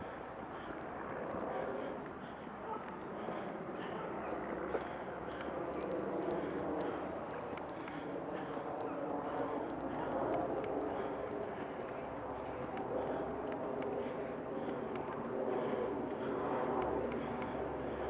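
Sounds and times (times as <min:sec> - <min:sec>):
insects buzzing in trees: 0:00.0 - 0:16.3
outdoor background noise: 0:00.0 - 0:18.0.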